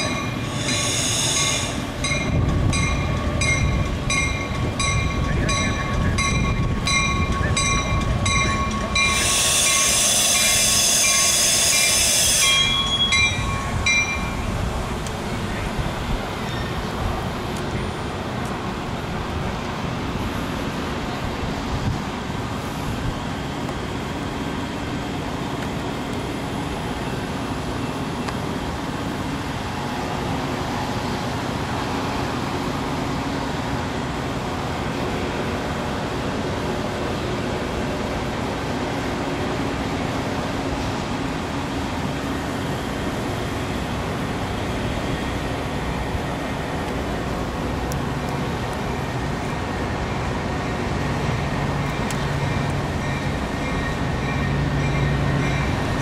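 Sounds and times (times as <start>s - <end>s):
diesel locomotive engine running: 0.0s - 56.0s
rail and road traffic rumble: 0.0s - 56.0s.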